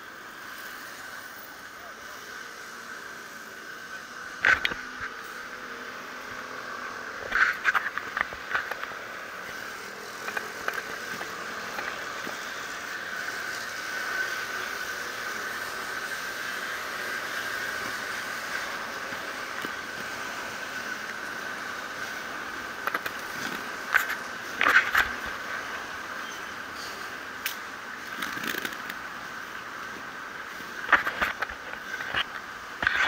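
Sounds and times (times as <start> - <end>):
high-pitched whine: 0.0 - 33.0.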